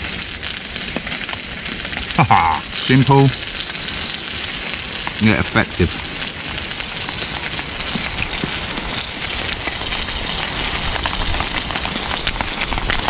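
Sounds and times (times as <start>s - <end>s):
rain pattering on tarp: 0.0s - 13.0s.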